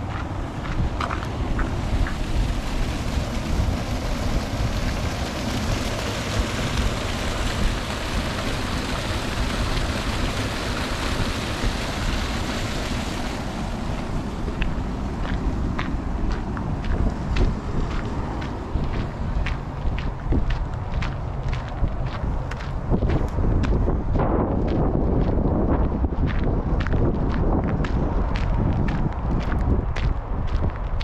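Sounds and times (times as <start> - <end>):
water rushing and churning: 0.0 - 31.0.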